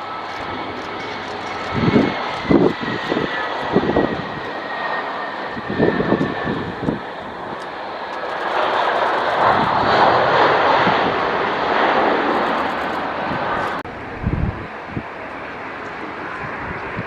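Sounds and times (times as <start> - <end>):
jet engines rushing: 0.0 - 17.0.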